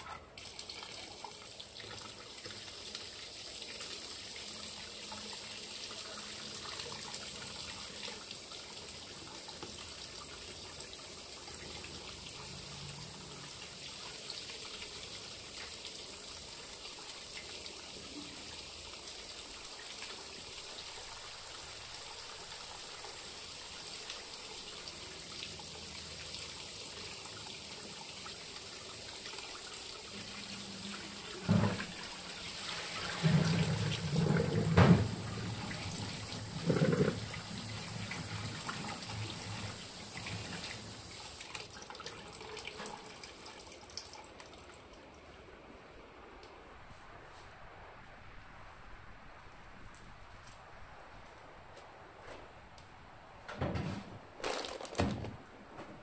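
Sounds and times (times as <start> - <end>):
tap water pouring into a pot: 0.0 - 45.3.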